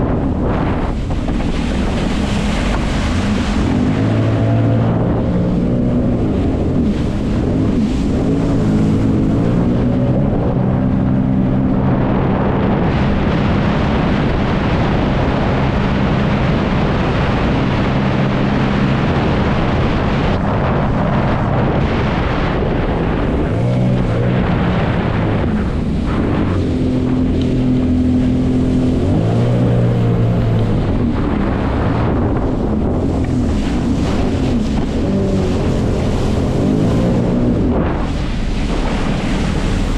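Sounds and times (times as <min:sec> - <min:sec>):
jet ski engine running: 0:00.0 - 0:39.9
rushing water: 0:00.0 - 0:39.9
wind on microphone: 0:00.0 - 0:39.9.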